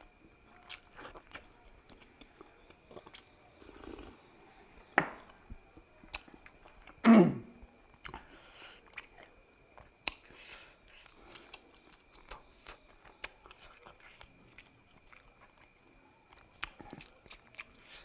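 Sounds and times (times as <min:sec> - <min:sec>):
person chewing food: 0:00.0 - 0:04.2, 0:05.2 - 0:07.0, 0:07.9 - 0:18.0.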